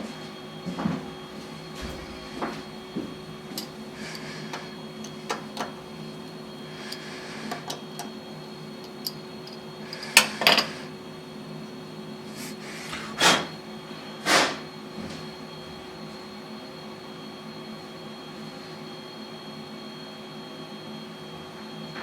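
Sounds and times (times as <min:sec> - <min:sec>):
milling machine humming: 0:00.0 - 0:19.5.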